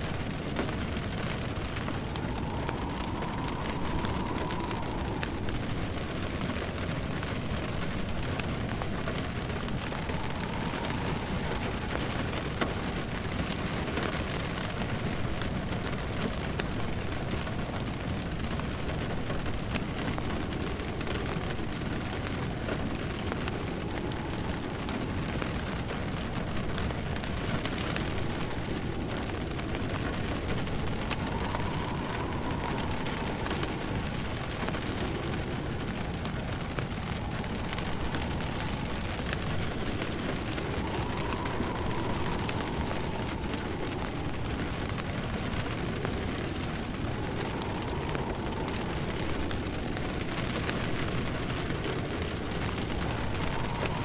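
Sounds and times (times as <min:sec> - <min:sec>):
faint howling wind: 0:00.0 - 0:54.0
steady rain: 0:00.0 - 0:54.0
wood fire crackling: 0:00.0 - 0:54.0.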